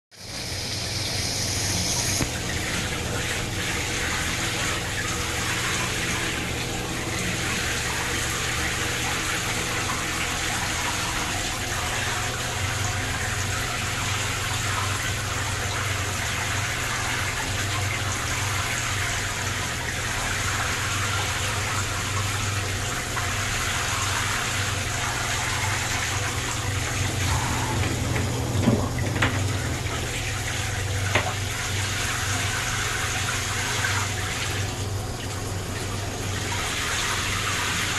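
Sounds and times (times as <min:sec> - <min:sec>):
tap water running into bathtub: 0:00.2 - 0:37.9.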